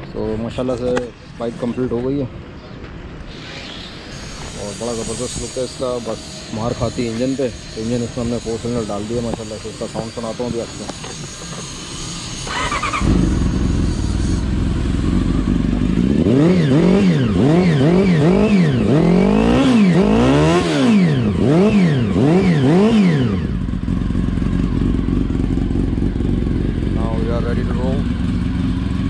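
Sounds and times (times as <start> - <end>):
motorcycle engine revving and idling: 3.7 - 29.0.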